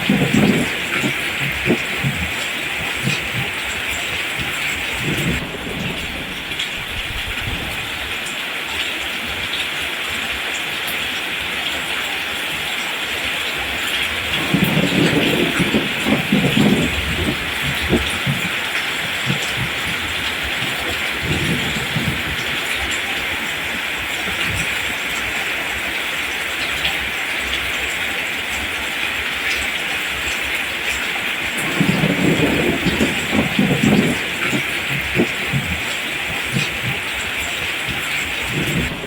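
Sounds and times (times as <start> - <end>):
thunder rumbling: 0.0 - 8.4, 13.6 - 28.0, 29.0 - 39.0
rain falling: 0.0 - 39.0.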